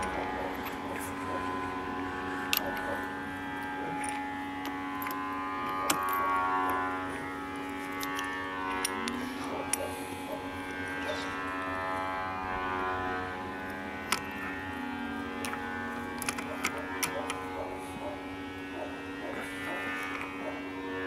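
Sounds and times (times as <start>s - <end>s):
droning background music: 0.0s - 21.0s.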